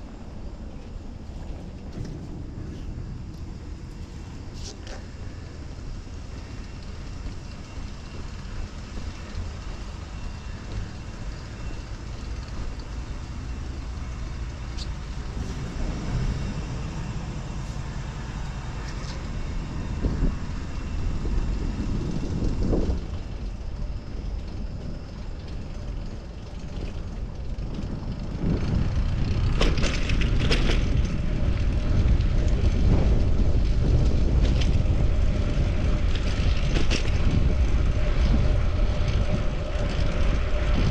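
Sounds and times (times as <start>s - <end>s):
passing street traffic: 0.0s - 40.9s
wind rumbling on microphone: 0.0s - 40.9s.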